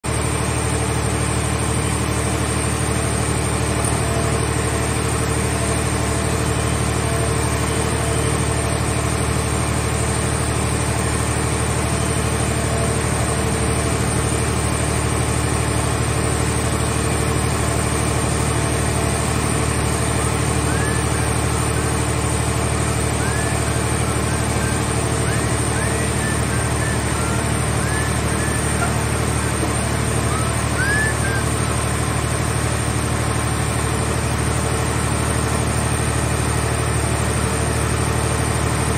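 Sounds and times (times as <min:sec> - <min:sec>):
hydraulic machinery humming: 0:00.1 - 0:38.9.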